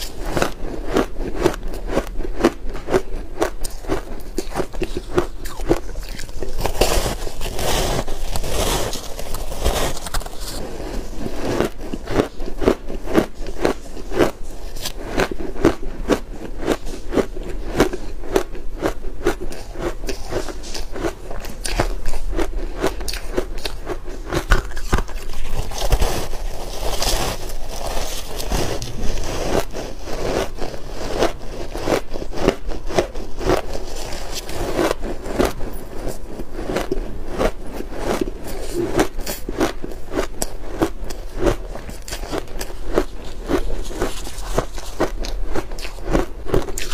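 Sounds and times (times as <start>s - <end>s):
crunchy chewing of ice: 0.0s - 46.9s.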